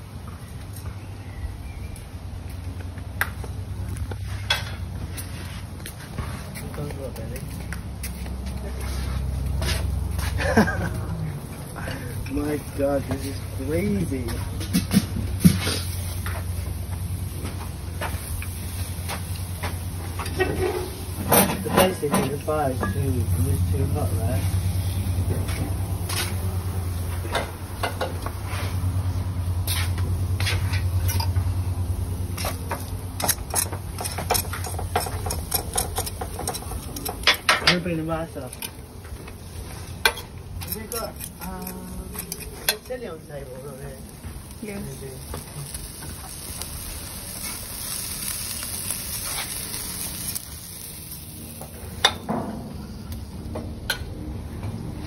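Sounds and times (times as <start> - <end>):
fire crackling and popping: 2.0 - 54.1
food sizzling on grill: 8.9 - 54.0.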